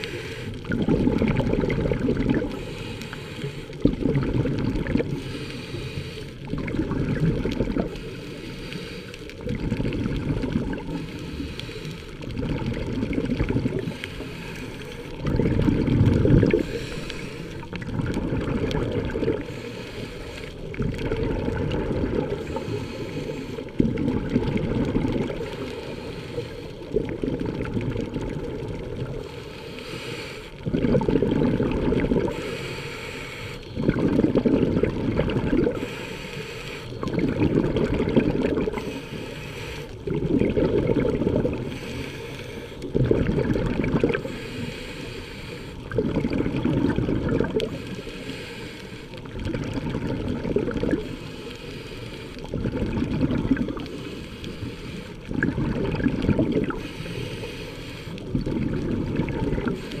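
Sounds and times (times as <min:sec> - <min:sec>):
diver inhaling through regulator: 0:00.0 - 0:09.9, 0:10.8 - 0:27.6, 0:29.0 - 1:00.0
exhaled air bubbling: 0:00.0 - 1:00.0.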